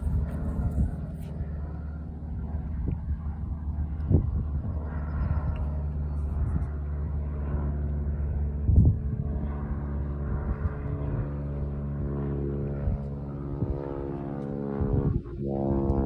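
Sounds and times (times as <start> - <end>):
propeller plane flying overhead: 0.0 - 16.0.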